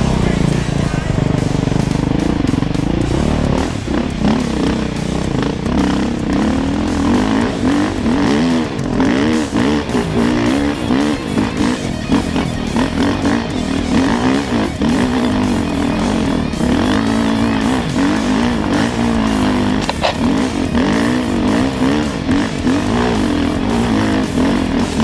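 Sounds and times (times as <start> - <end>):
dirt bike engine revving: 0.0 - 25.0
rock music: 0.0 - 25.0.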